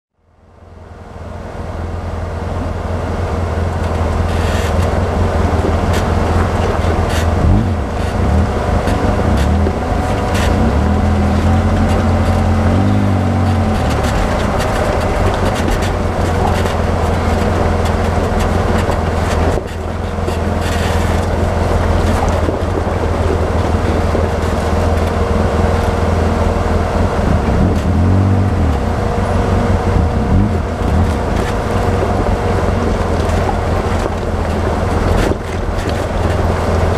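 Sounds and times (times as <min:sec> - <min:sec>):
off-road vehicle engine revving: 0:02.8 - 0:36.9
rocks knocking and rattling: 0:03.7 - 0:36.9.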